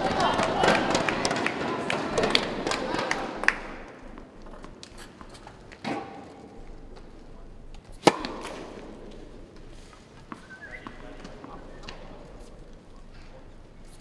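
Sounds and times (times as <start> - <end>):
tennis balls hit by rackets: 0.0 - 12.4.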